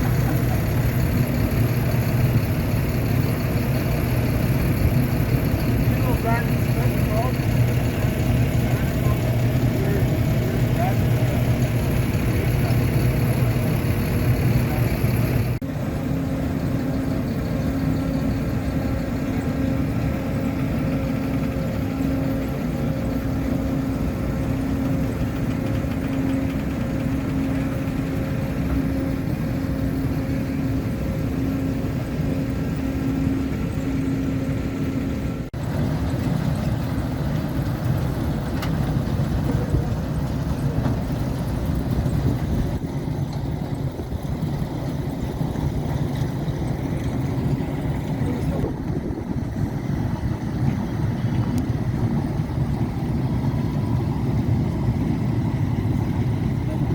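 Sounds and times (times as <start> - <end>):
machinery humming with pulsing tone: 0.0 - 56.9.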